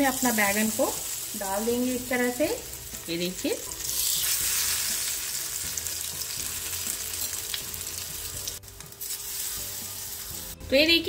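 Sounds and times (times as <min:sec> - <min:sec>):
food frying hiss: 0:00.0 - 0:10.6.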